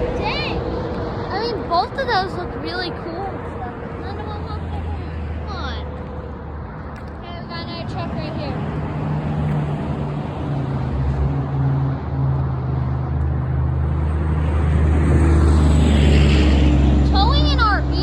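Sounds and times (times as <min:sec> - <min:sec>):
truck driving past: 0:00.0 - 0:18.0.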